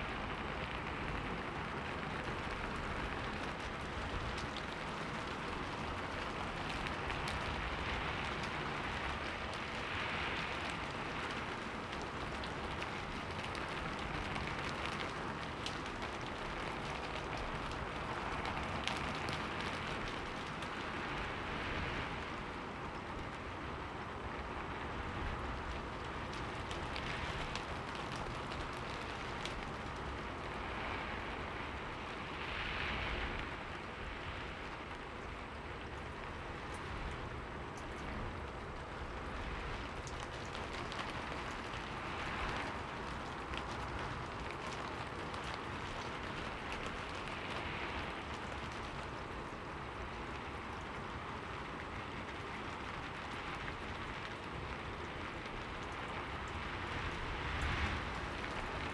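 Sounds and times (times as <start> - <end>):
rain on a window: 0.0 - 58.9.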